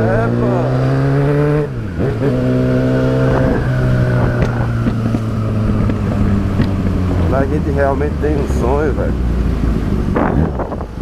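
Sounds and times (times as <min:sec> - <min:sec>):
motorcycle engine running: 0:01.8 - 0:11.0.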